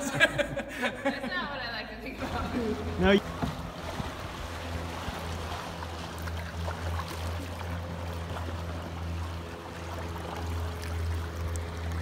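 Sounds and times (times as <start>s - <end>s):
boat motor droning: 1.4s - 12.0s
water splashing and dripping: 2.2s - 12.0s.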